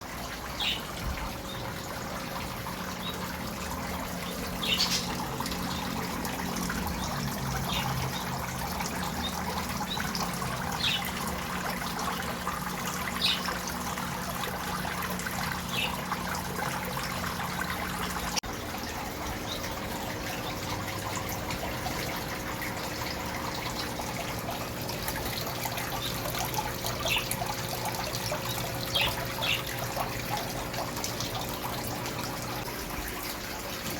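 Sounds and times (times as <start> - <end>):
pump hum: 0.0 - 33.9
water trickling: 0.0 - 33.9.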